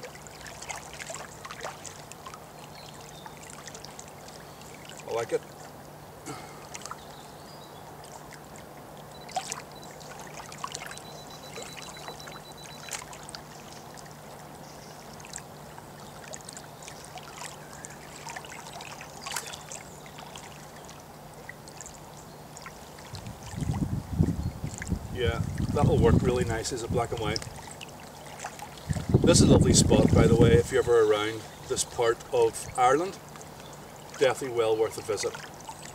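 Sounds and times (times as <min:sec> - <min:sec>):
small waves lapping: 0:00.0 - 0:35.9.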